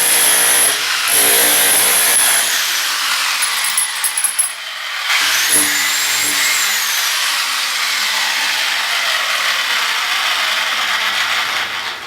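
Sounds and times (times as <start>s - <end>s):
power tool stripping plaster: 0.0s - 3.6s, 4.6s - 12.0s.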